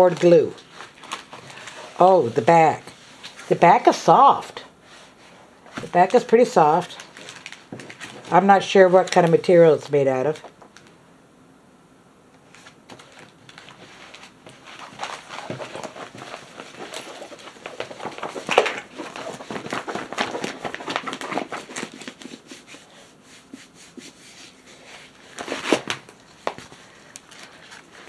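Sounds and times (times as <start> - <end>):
plastic crinkling and rustling: 0.0 - 3.5, 5.0 - 9.5, 12.4 - 23.6, 24.4 - 28.0.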